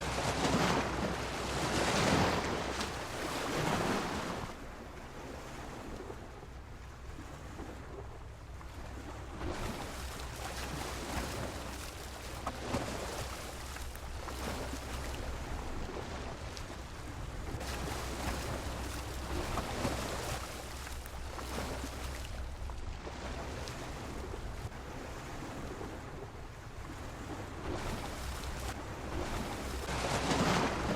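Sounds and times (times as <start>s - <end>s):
sea waves slapping against a pier: 0.0s - 30.9s
wind rumble on microphone: 0.0s - 30.9s.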